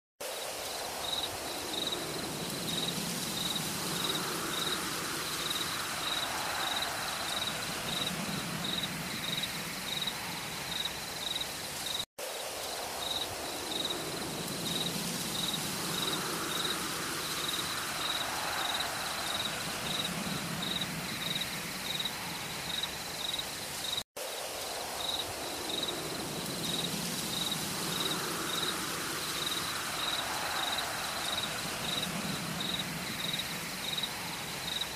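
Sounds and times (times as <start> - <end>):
insects chirping: 0.2 - 34.9
rain-like hiss: 0.2 - 34.9.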